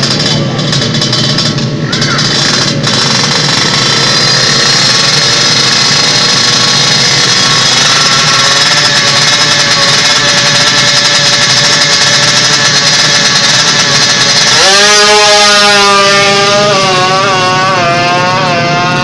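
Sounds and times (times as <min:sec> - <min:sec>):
motorcycle accelerating through gears: 0:00.0 - 0:19.0
motorcycle engines rasping: 0:00.0 - 0:19.0.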